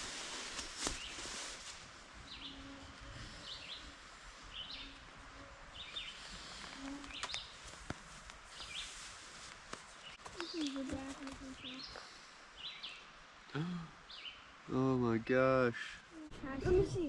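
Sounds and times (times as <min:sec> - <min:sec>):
forest background hiss: 0:00.0 - 0:17.0.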